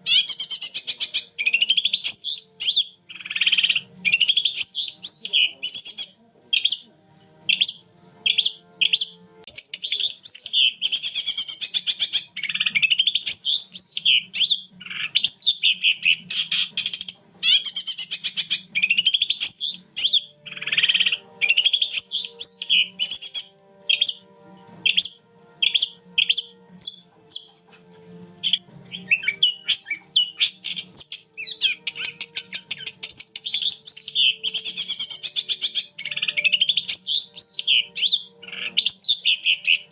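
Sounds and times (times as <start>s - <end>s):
bird singing chirping notes: 0.0s - 6.9s, 7.5s - 39.9s.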